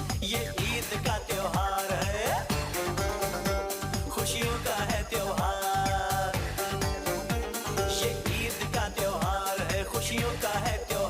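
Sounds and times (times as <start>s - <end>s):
upbeat dance-pop music: 0.0s - 11.0s.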